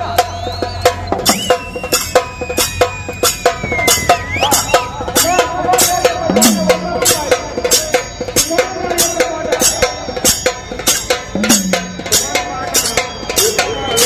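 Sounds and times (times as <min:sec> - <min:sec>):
drum troupe playing fast rhythm: 0:00.0 - 0:14.0
held wavering melody: 0:01.3 - 0:13.7.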